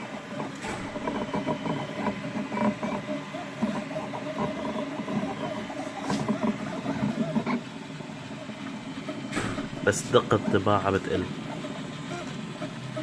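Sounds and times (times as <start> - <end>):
printer steady hum: 0.0 - 13.0
stepper motors whining: 0.0 - 13.0.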